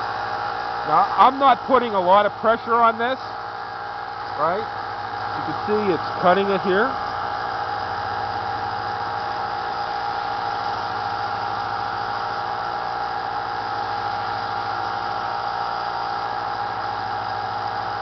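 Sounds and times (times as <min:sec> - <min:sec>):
belt sander motor humming: 0:00.0 - 0:18.0.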